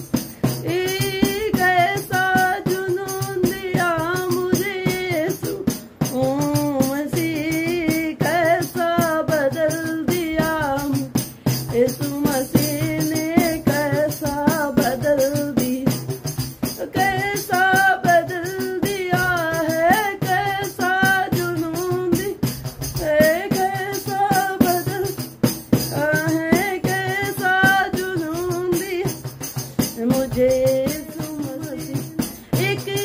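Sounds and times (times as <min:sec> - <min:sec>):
hand tambourine jingling: 0:00.0 - 0:33.0
woman singing devotional song: 0:00.0 - 0:33.0.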